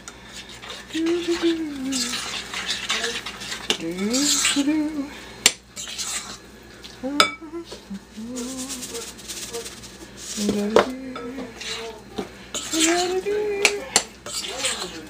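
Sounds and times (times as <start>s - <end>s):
spoon stirring in glass bowl: 0.3s - 4.7s, 5.8s - 7.8s, 8.4s - 15.0s.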